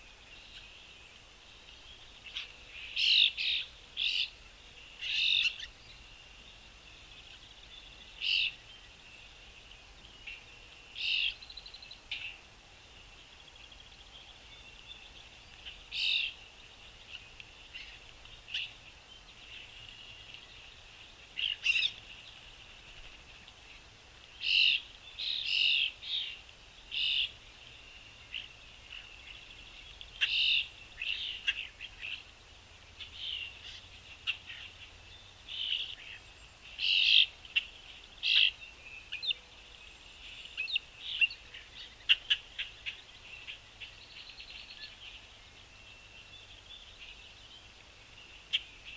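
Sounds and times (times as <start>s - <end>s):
small songbirds chirping: 0.0s - 48.9s.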